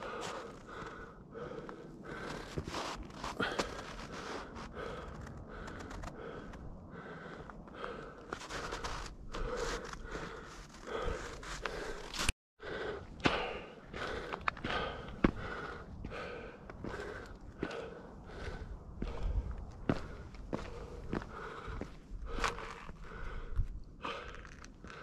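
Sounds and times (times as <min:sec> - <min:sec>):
footsteps on snow and rock: 0:00.0 - 0:06.6, 0:07.2 - 0:12.3, 0:13.2 - 0:25.0
person breathing quickly: 0:00.0 - 0:25.0.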